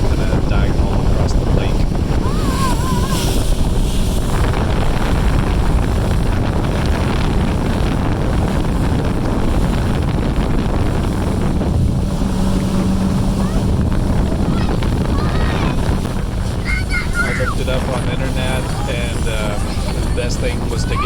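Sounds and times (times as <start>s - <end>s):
motorboat engine: 0.0s - 21.0s
wind buffeting microphone: 0.0s - 21.0s.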